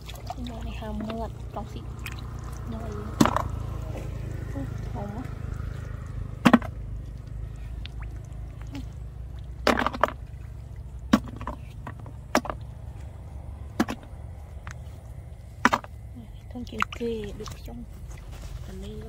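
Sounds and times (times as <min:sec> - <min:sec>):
splashes in muddy water: 0:00.0 - 0:19.0
steady low rumble: 0:00.0 - 0:19.0.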